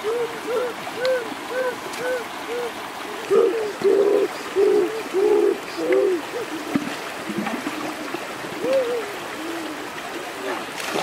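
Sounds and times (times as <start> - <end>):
stream rushing water: 0.0 - 11.0.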